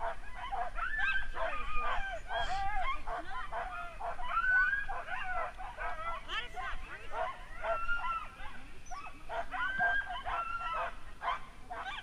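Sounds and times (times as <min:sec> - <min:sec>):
sled dogs barking and yelping: 0:00.0 - 0:12.0.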